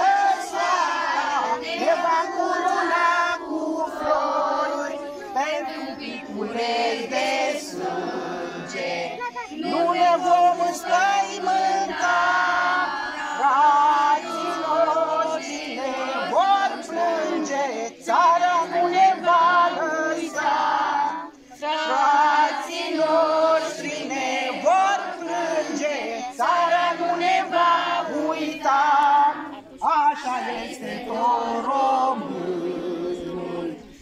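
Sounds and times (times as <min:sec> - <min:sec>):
children singing in chorus: 0:00.0 - 0:34.0.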